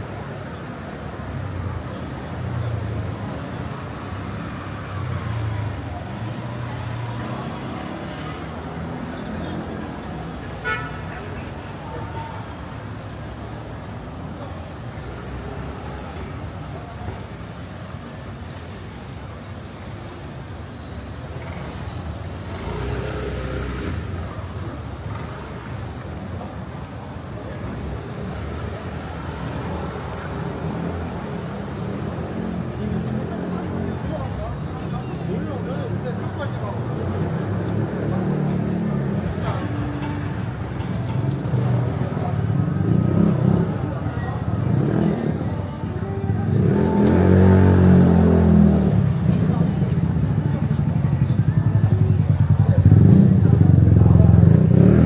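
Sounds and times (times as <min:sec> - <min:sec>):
street traffic engine hum: 0:00.0 - 0:55.0.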